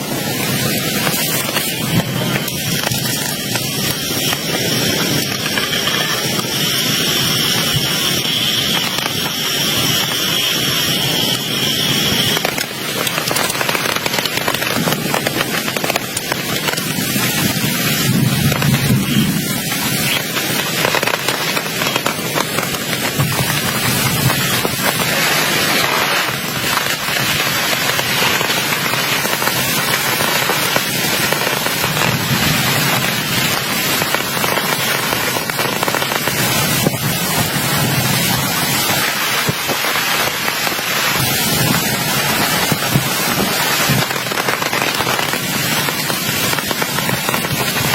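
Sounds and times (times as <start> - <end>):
heavy rain hissing: 0.0 - 47.9
high-pitched steady whine: 0.0 - 47.9.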